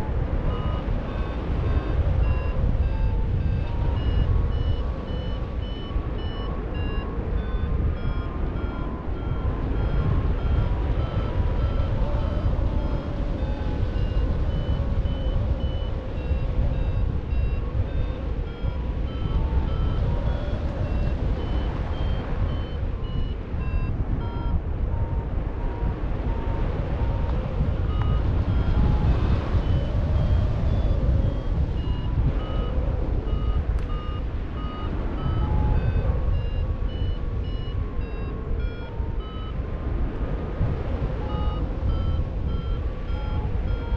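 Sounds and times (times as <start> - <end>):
wind rushing over microphone: 0.0 - 43.9
variometer beeping: 0.4 - 39.6, 40.8 - 43.9.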